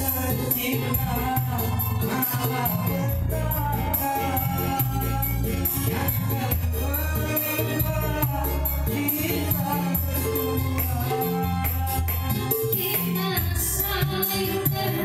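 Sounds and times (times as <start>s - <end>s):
bass line: 0.0s - 15.0s
high percussion beat: 0.0s - 15.0s
person singing: 0.0s - 15.0s.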